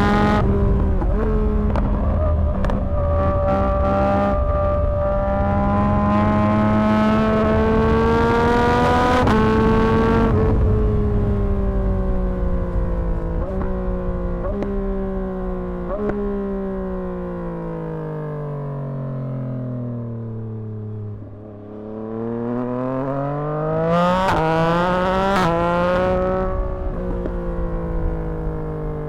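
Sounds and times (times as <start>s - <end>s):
engine braking with downshifts: 0.0s - 29.0s
motorcycle engine at full throttle: 0.0s - 29.0s.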